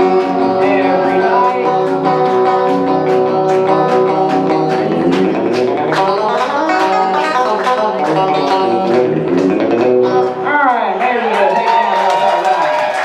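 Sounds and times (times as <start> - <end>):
bluegrass music on plucked strings: 0.0 - 10.9.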